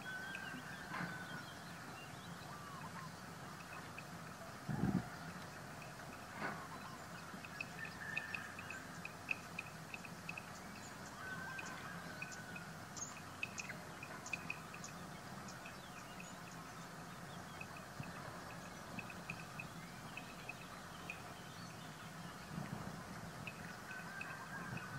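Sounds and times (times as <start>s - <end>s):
drawn-out animal call: 0.0s - 24.9s.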